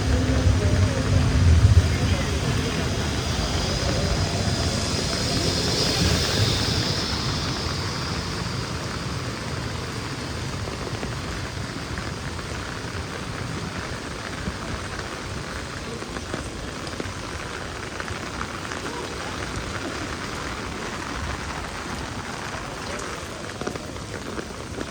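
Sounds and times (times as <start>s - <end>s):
heavy rain on hard surfaces: 0.0s - 24.9s.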